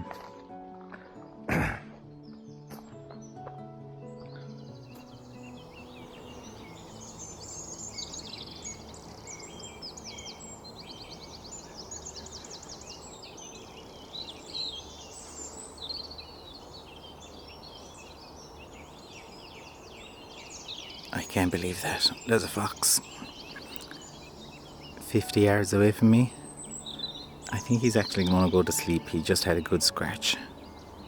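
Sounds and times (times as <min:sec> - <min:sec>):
birds singing: 0:00.0 - 0:31.0.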